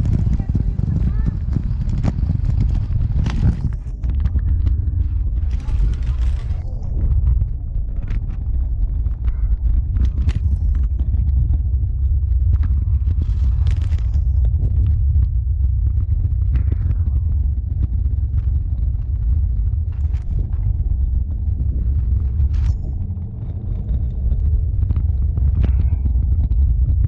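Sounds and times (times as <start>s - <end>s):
scooter wheels rumbling: 0.0s - 27.0s.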